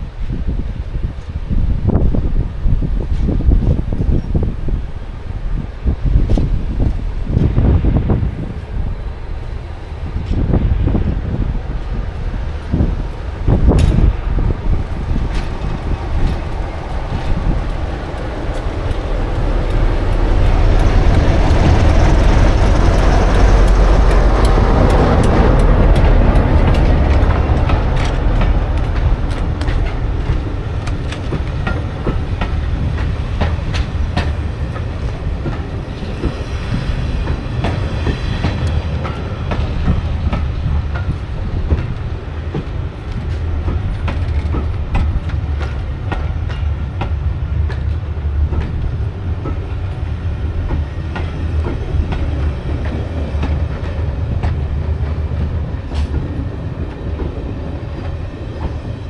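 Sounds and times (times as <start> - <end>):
diesel train rumbling: 0.0 - 59.0
train wheels clicking on rail joints: 0.1 - 59.0.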